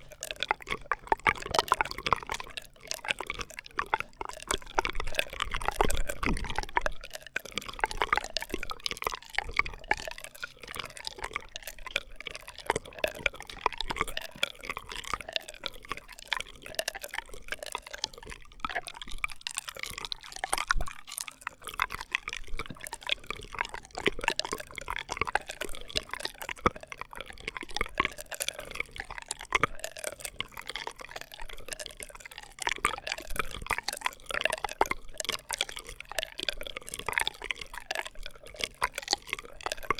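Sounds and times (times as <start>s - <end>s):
straw wet clicks and crackles: 0.0s - 39.9s.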